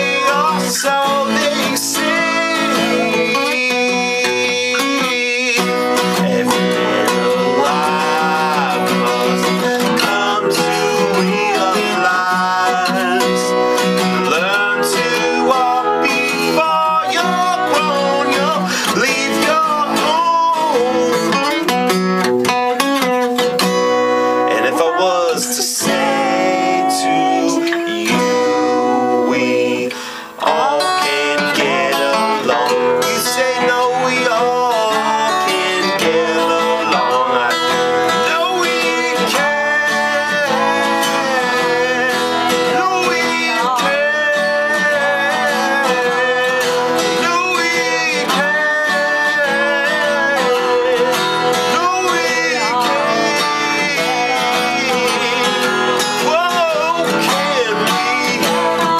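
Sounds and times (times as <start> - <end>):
pitch-bending melody line: 0.0 - 58.7
acoustic folk guitar music: 0.0 - 58.9.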